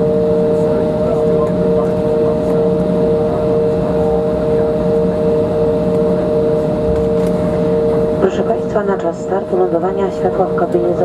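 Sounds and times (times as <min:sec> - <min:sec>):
airliner cabin rumble: 0:00.0 - 0:11.0
jet engines whining at idle: 0:00.0 - 0:11.0.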